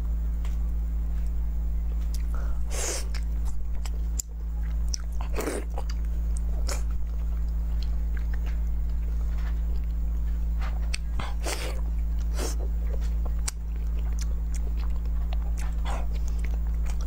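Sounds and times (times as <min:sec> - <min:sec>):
steady low hum: 0:00.0 - 0:17.0
person chewing soft food: 0:01.1 - 0:17.0.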